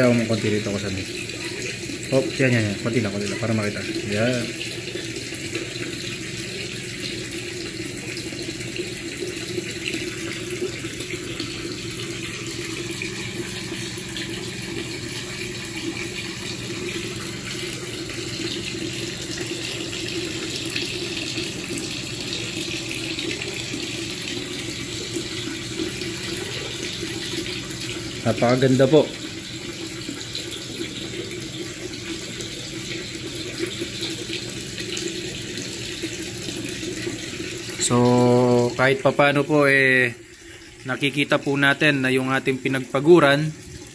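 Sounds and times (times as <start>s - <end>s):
water bubbling in tank: 0.0s - 43.9s.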